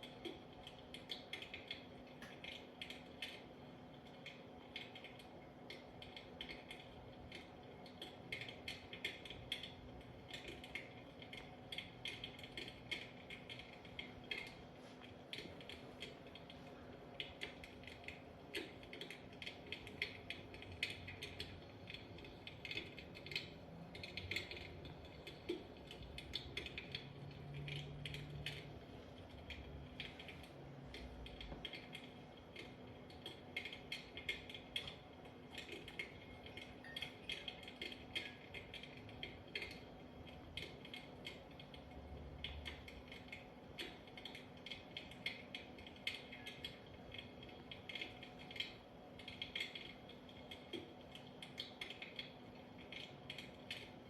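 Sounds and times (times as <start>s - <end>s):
electric fireplace hum: 0.0s - 54.0s.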